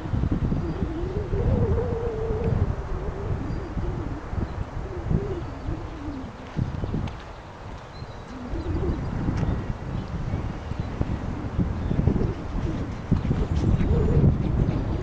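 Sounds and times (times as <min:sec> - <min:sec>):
storm wind buffeting microphone: 0:00.0 - 0:15.0
wind howling: 0:00.0 - 0:15.0.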